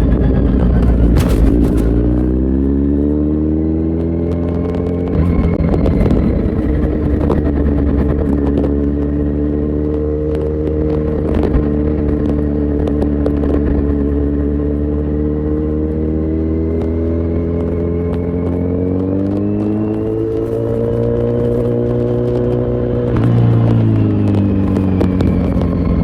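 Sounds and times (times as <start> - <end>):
motorcycle engine cruising: 0.0 - 26.0.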